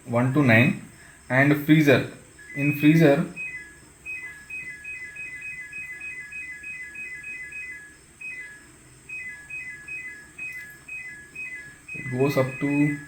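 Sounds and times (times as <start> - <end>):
bell-like melody: 2.4 - 13.0.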